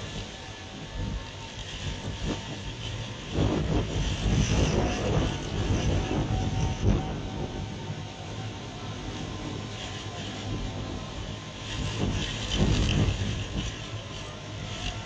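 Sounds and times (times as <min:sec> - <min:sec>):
storm wind rushing: 0:00.0 - 0:15.0.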